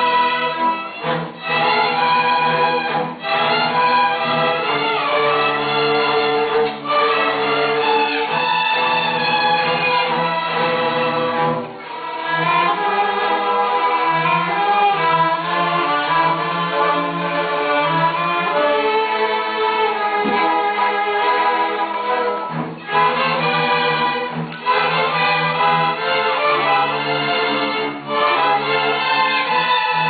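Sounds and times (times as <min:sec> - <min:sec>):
string orchestra playing: 0:00.0 - 0:30.0.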